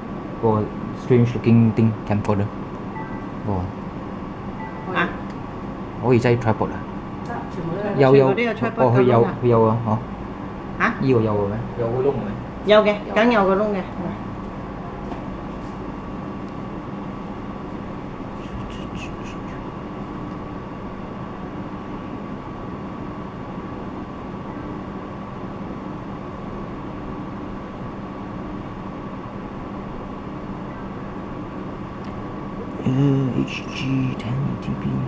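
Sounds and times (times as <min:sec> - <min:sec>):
faint constant tone: 0:00.0 - 0:35.0
indoor hum and hiss: 0:00.0 - 0:35.0.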